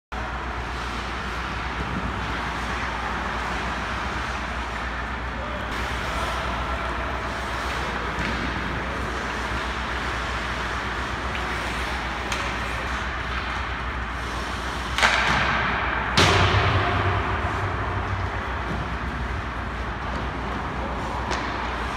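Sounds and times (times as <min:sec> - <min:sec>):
hockey rink background noise: 0:00.1 - 0:21.9.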